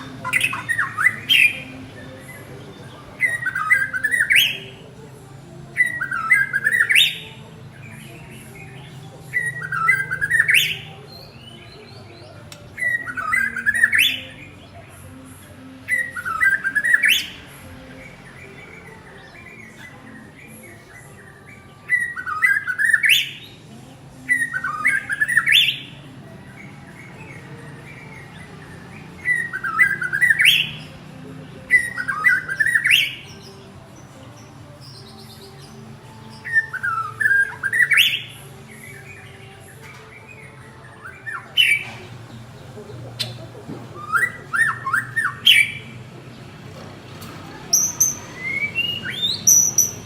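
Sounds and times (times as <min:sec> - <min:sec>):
bird singing: 0:00.0 - 0:50.0.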